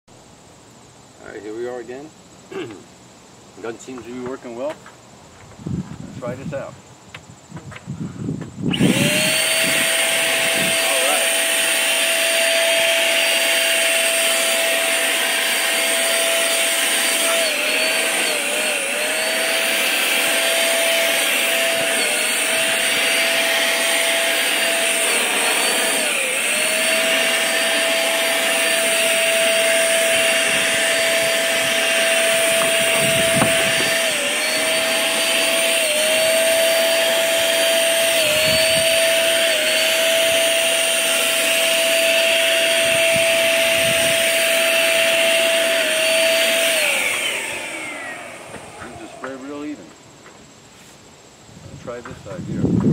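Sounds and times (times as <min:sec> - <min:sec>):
paint sprayer turbine whine: 0:06.0 - 0:51.1.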